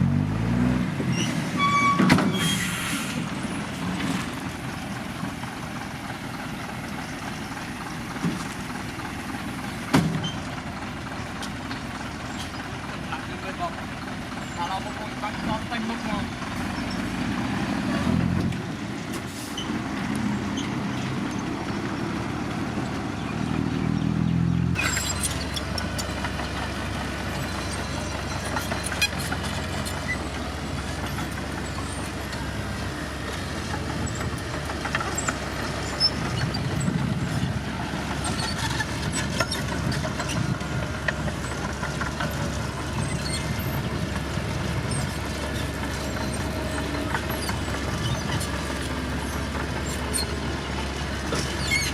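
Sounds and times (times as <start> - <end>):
diesel construction machinery running: 0.0 - 51.9.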